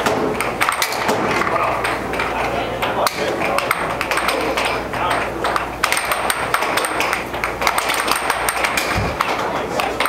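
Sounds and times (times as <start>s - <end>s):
air hockey puck clacking: 0.0s - 10.0s.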